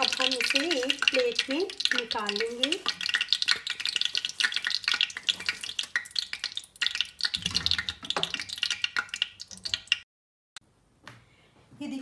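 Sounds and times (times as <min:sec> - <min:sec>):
hot oil sizzling and crackling: 0:00.0 - 0:10.0.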